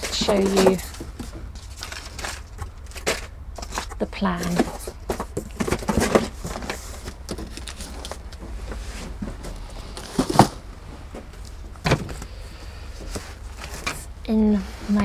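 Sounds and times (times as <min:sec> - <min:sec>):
rustling: 0:00.0 - 0:15.0
steady low hum: 0:00.0 - 0:15.0.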